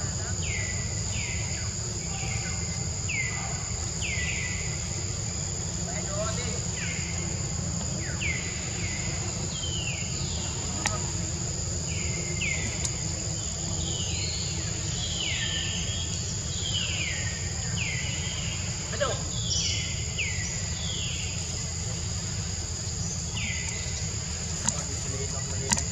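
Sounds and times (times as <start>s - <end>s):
high-pitched insect drone: 0.0s - 25.9s.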